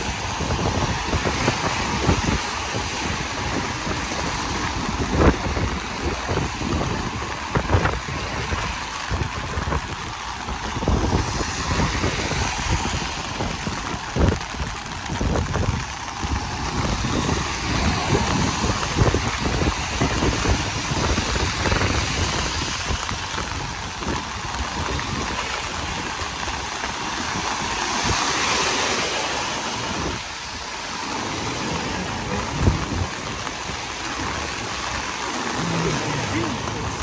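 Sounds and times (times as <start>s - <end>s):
wet road traffic hiss: 0.0s - 37.0s.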